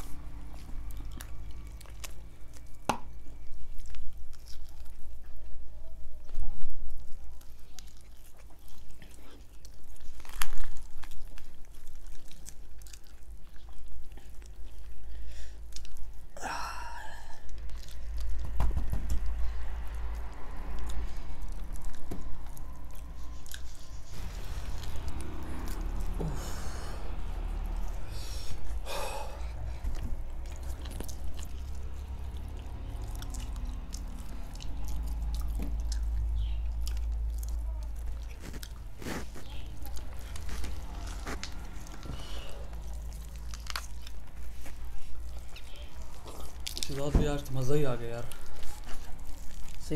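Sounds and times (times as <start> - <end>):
steady low hum: 0.0 - 46.9
people chewing chicken: 0.0 - 49.9.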